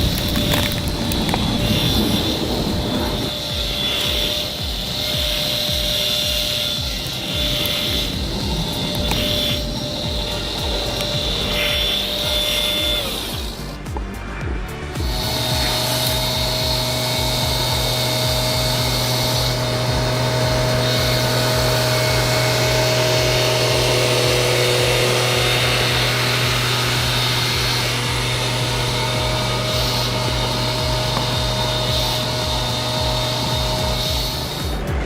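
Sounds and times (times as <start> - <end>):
high whine: 0.0 - 35.0
machinery drone: 0.0 - 35.0.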